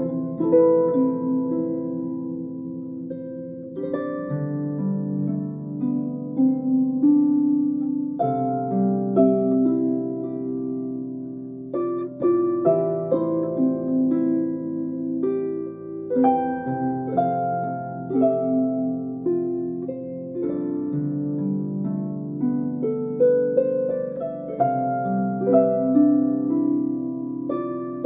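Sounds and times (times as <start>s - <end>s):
plucked harp-like notes: 0.0s - 28.0s.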